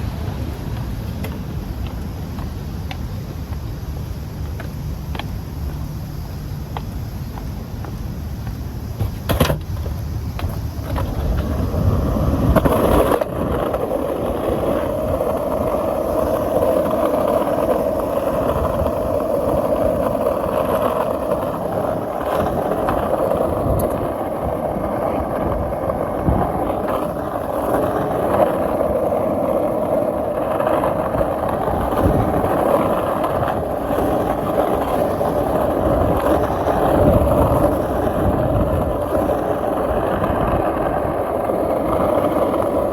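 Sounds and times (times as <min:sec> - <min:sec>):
skateboard clacks: 0:00.0 - 0:42.9
skateboard wheels rolling on pavement: 0:00.0 - 0:42.9.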